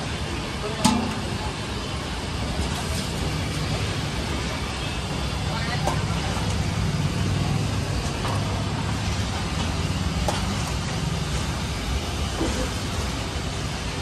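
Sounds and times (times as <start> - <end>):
continuous hiss: 0.0 - 14.0
road traffic rumble: 0.0 - 14.0.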